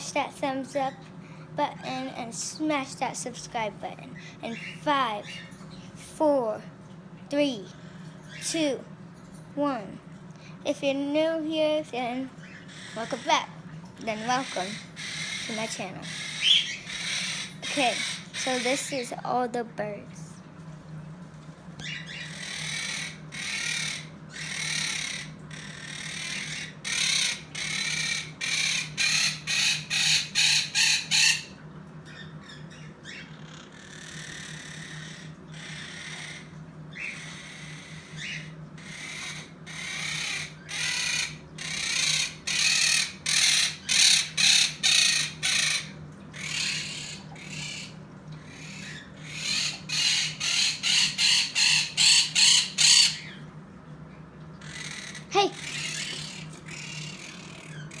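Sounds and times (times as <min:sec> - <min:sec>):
pet birds calling harshly: 0:00.0 - 0:06.6, 0:10.6 - 0:20.3, 0:21.8 - 0:53.5, 0:54.5 - 0:58.0
steady low hum: 0:00.0 - 0:58.0.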